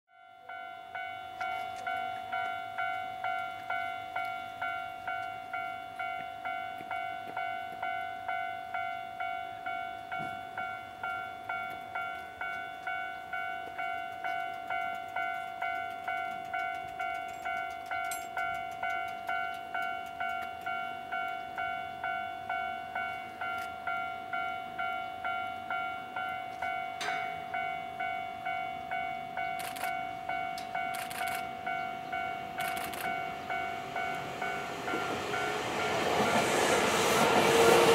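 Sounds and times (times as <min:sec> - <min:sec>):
level crossing alarm bell ringing: 0:00.1 - 0:37.9.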